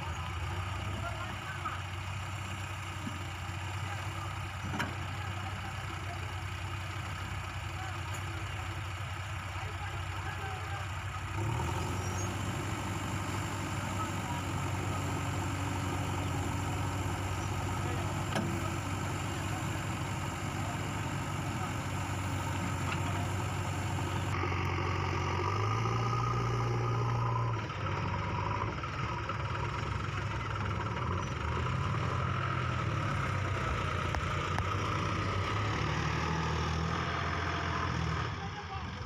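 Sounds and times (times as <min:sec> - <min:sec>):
diesel engines running: 0:00.0 - 0:39.0.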